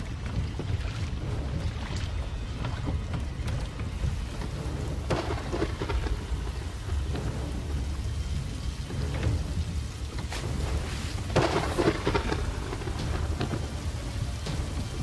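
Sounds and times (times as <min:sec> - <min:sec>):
heavy rain: 0:00.0 - 0:15.0
low rumble of thunder: 0:00.0 - 0:15.0.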